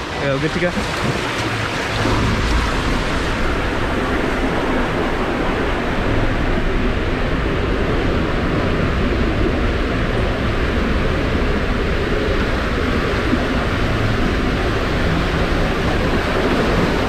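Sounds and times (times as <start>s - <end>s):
water rushing down tube slide: 0.0s - 17.0s.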